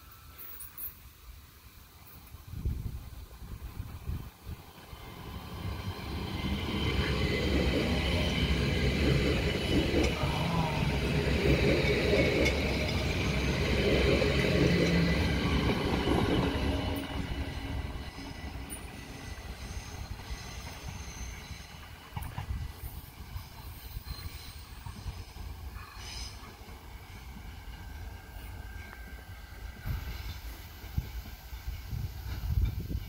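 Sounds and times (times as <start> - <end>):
electric train passing: 0.0 - 33.0
train high whine: 0.0 - 33.0.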